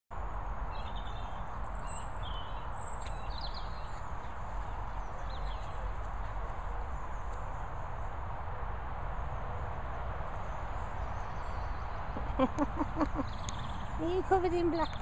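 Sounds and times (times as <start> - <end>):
birds chirping and twittering: 0.2 - 15.0.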